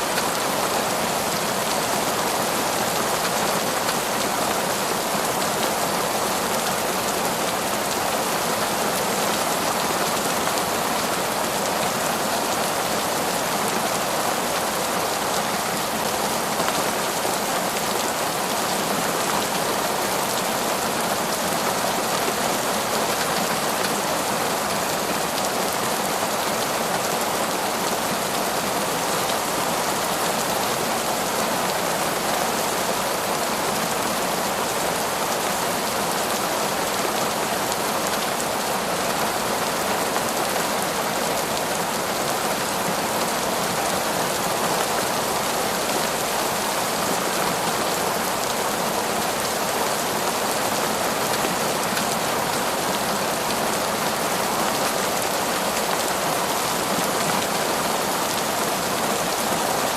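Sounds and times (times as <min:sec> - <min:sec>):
heavy rain falling through trees: 0:00.0 - 0:59.9.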